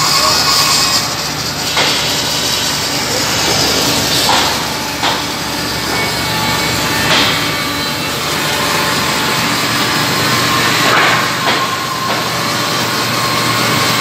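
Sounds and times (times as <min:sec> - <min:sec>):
saw cutting through timber: 0:00.0 - 0:14.0.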